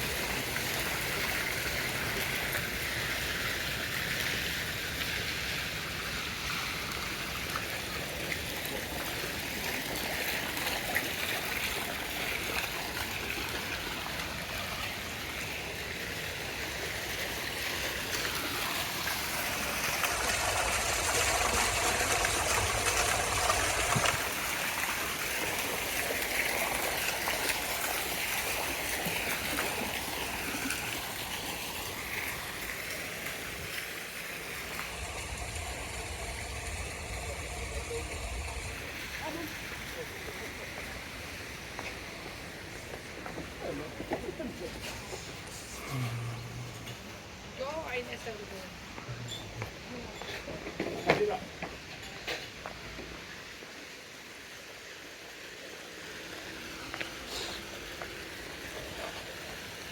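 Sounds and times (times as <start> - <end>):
stream water rushing: 0.0 - 48.0, 53.2 - 59.9.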